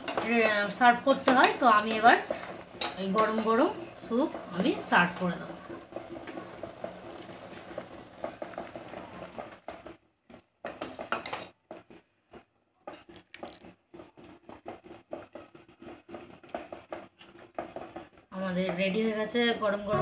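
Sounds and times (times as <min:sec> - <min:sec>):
soup bubbling: 0:00.0 - 0:18.4.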